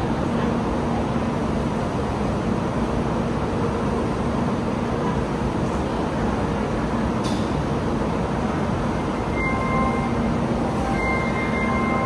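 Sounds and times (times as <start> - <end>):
stationary train humming: 0.0 - 12.0.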